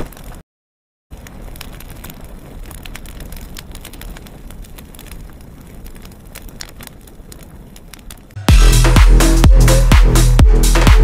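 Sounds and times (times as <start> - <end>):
fire crackles: 0.0 - 0.4, 1.1 - 11.0
flames burning rumble: 0.0 - 0.4, 1.1 - 10.8.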